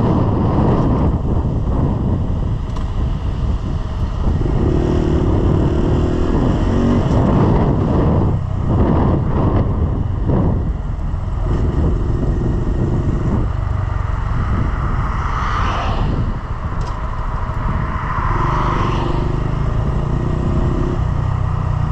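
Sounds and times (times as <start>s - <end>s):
motorcycle engine running: 0.0s - 15.1s, 19.2s - 21.9s
wind on microphone: 0.0s - 21.9s.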